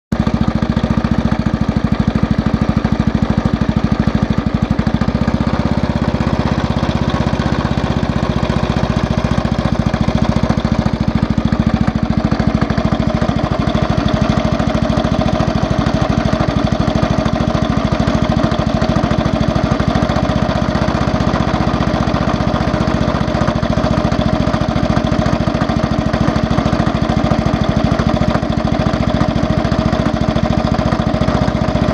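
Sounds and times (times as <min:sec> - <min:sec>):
scooter engine knocking: 0:00.1 - 0:31.9.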